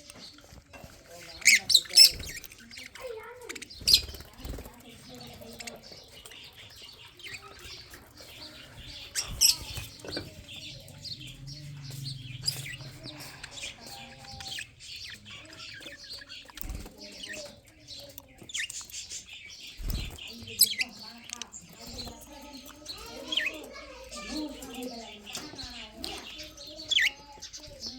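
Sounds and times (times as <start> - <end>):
budgerigars chirping: 0.0 - 27.9.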